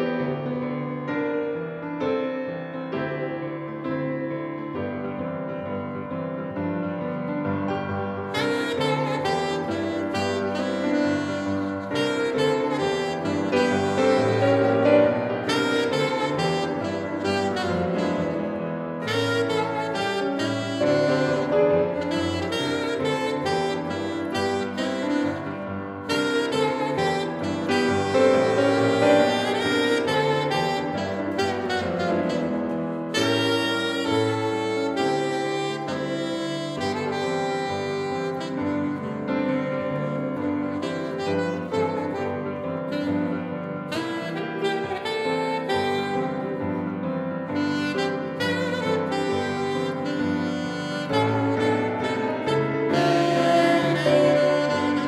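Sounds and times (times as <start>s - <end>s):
alto saxophone jazz melody: 0.0s - 55.0s
grand piano: 0.0s - 55.0s.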